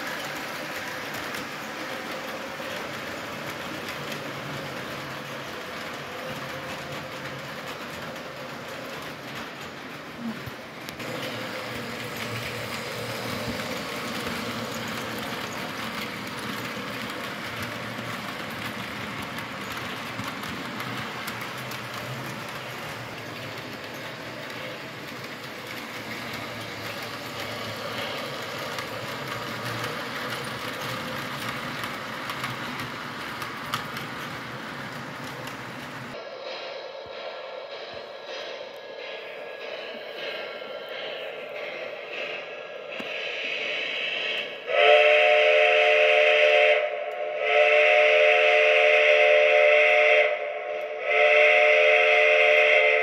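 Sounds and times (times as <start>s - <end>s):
model train wheels rumbling: 0.0s - 53.0s.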